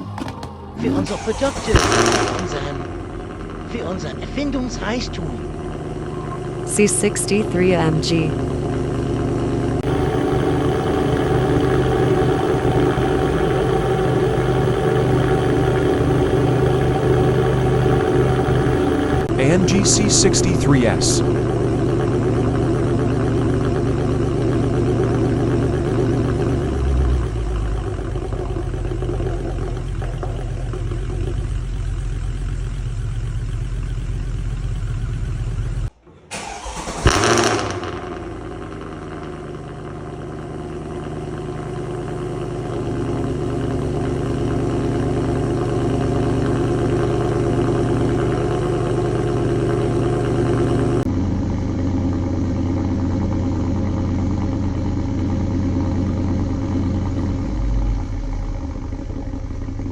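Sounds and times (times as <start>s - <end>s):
car engine idling: 0.0s - 59.9s
engine starting with loud flare: 0.0s - 59.9s.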